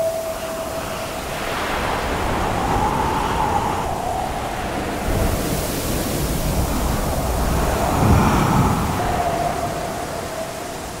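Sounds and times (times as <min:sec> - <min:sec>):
heavy waves rushing: 0:00.0 - 0:11.0
wind whistling: 0:00.0 - 0:11.0.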